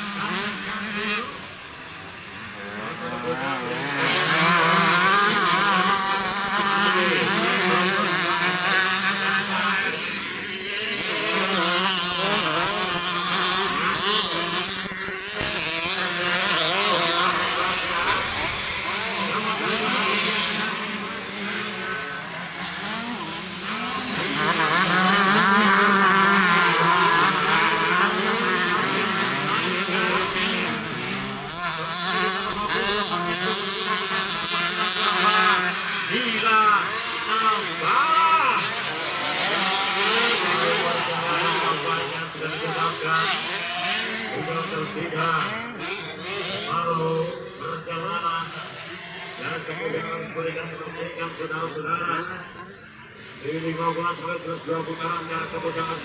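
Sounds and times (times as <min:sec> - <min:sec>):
motocross motorcycles revving: 0:00.0 - 0:56.0.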